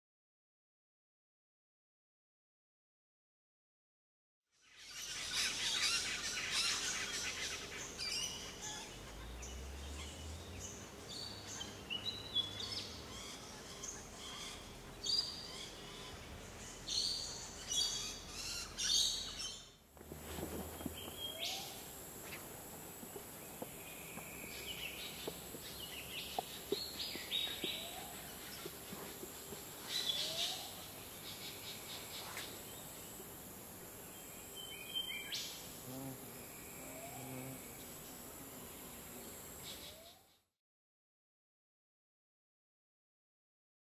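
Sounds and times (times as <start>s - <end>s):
steady high hiss: 4.8s - 40.3s.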